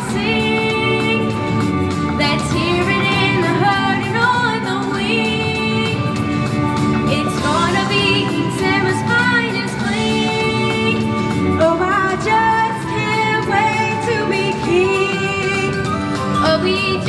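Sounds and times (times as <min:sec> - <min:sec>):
instrumental backing: 0:00.0 - 0:17.0.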